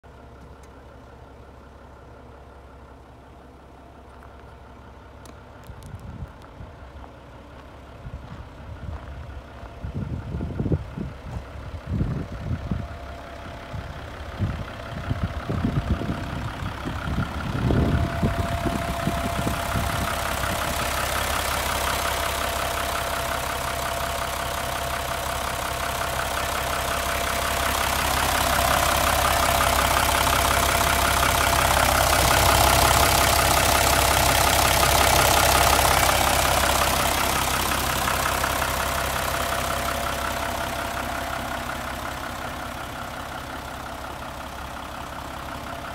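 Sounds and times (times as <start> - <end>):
diesel engine idling: 0.0 - 45.9
low buffeting: 0.2 - 45.9.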